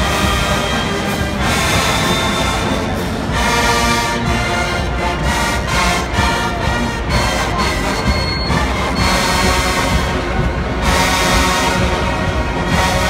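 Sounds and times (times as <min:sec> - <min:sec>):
marching band brass chords: 0:00.0 - 0:13.0
marching band drums: 0:00.0 - 0:13.0.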